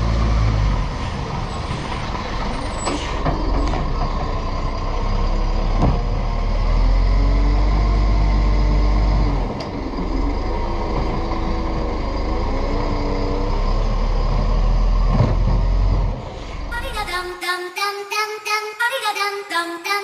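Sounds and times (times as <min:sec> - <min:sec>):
garbage truck diesel engine revving: 0:00.0 - 0:17.2.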